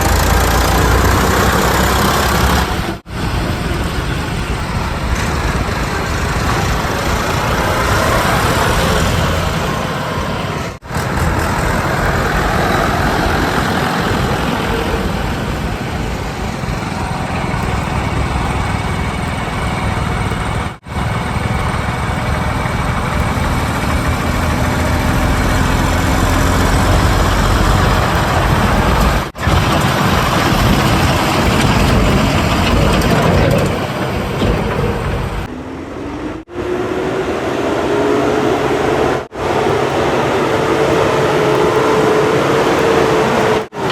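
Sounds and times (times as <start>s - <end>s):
heavy diesel engines running: 0.0s - 43.9s.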